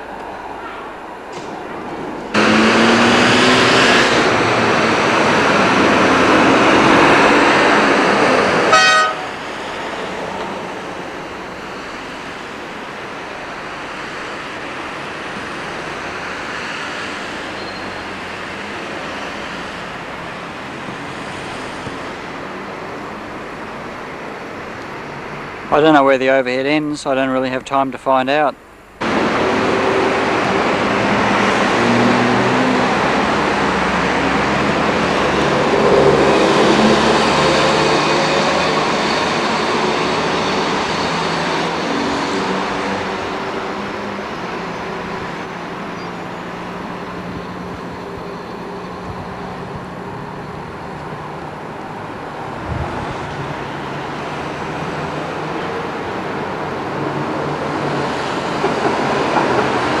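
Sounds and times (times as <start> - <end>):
road traffic rushing past: 0.0 - 27.5, 28.6 - 60.0.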